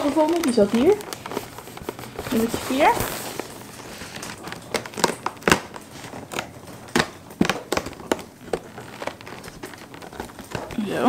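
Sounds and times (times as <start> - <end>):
packaging clicks and crackles: 0.0 - 11.0.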